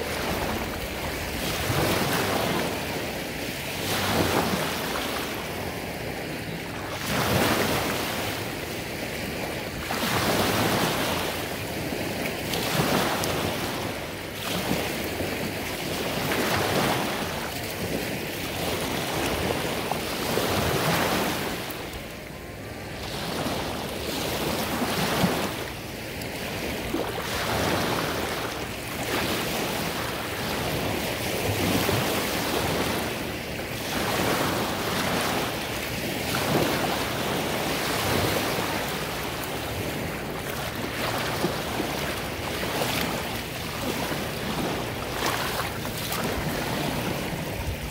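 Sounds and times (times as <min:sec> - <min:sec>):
small waves breaking on shore: 0:00.0 - 0:47.9.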